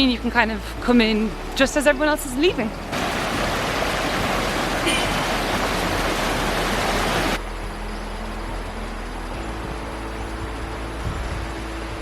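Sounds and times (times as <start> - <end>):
rushing river water: 0.1 - 12.0.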